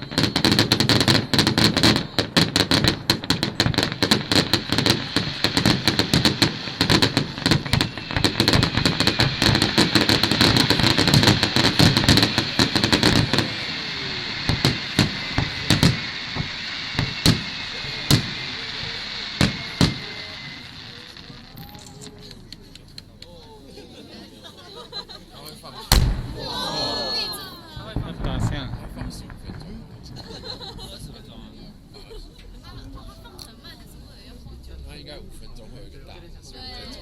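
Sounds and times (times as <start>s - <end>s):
fireworks crackling and popping: 0.0s - 23.4s, 25.8s - 34.0s.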